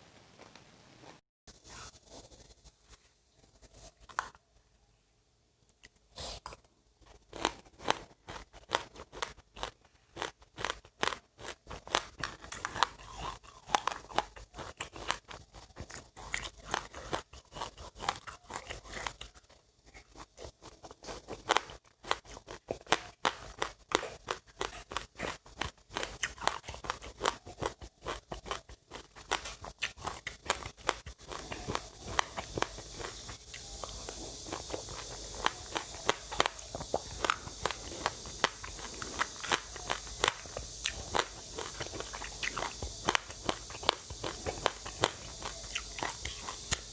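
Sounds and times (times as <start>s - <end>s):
seeds crunching being chewed: 5.7s - 46.9s
steady hiss: 7.4s - 46.9s.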